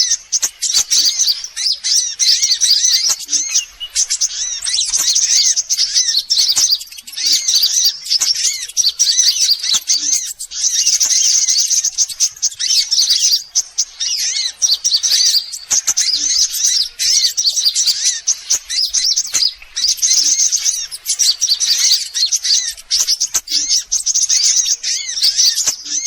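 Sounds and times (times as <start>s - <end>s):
sunbirds chirping: 0.0s - 26.0s.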